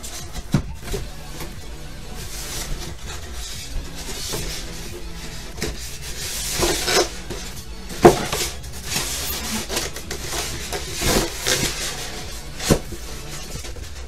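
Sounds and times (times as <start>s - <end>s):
packaging rustling and scraping: 0.0s - 14.0s.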